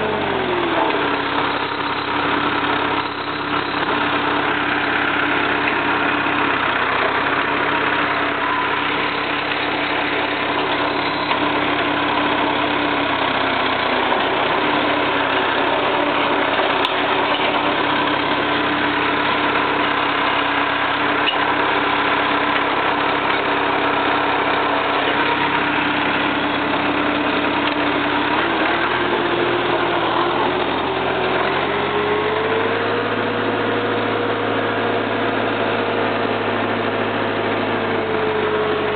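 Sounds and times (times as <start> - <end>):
diesel mower engine running: 0.0 - 38.9.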